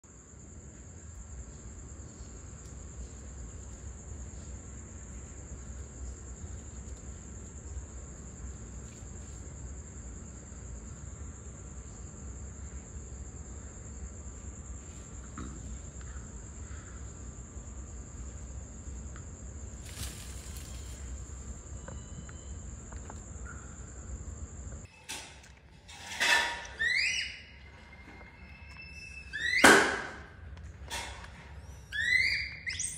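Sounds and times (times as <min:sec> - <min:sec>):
night insects trilling: 0:00.0 - 0:32.9.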